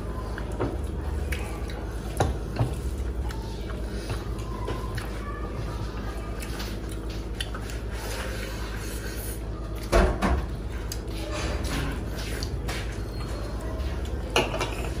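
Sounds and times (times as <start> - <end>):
chewing: 0.0 - 14.3
food mixed on metal plates: 0.0 - 15.0.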